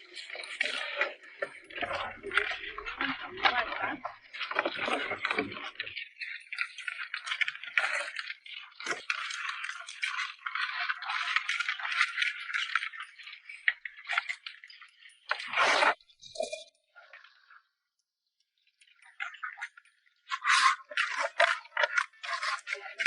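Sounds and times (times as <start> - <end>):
crabs clattering in a container: 0.0 - 16.3, 19.2 - 23.0.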